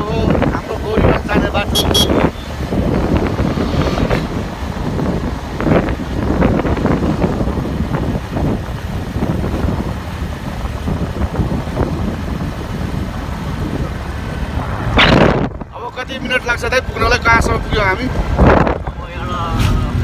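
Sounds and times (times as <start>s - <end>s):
auto-rickshaw motor rumble: 0.0s - 20.0s
wind buffeting microphone: 0.0s - 20.0s.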